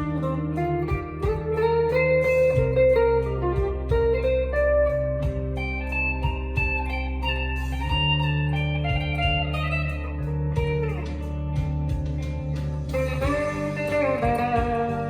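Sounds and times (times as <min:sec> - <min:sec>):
clean electric guitar chords and notes: 0:00.0 - 0:15.0.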